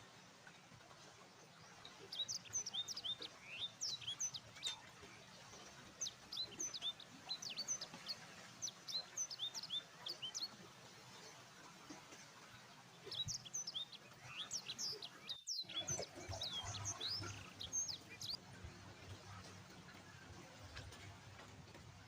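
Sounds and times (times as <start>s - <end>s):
birds chirping: 1.4s - 21.5s.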